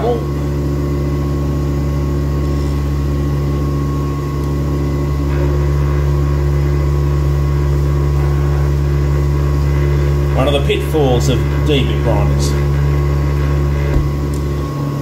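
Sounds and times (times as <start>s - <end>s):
grinder motor humming: 0.0s - 15.0s.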